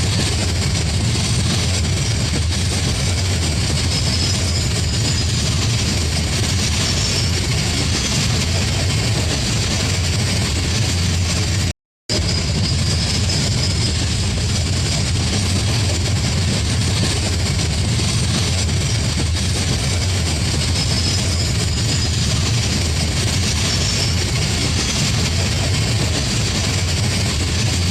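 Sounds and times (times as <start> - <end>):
train passing: 0.0 - 27.9.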